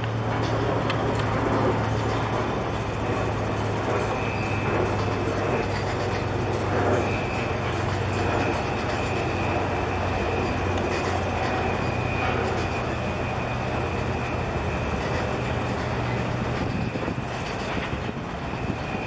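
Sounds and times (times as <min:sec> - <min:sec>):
boat diesel engine droning: 0:00.0 - 0:19.0
wind and water noise: 0:00.0 - 0:19.0.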